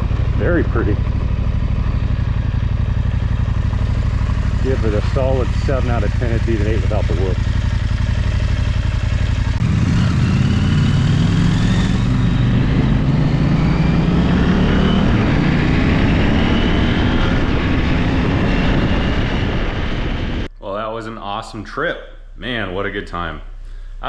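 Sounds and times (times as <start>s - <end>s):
motorcycle engine running: 0.0s - 20.5s.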